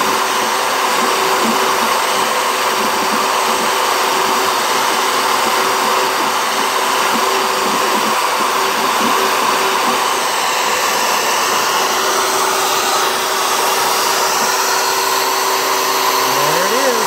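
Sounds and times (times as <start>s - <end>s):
axis motors rising and falling: 0.0s - 17.0s
cnc router spindle whine: 0.0s - 17.0s.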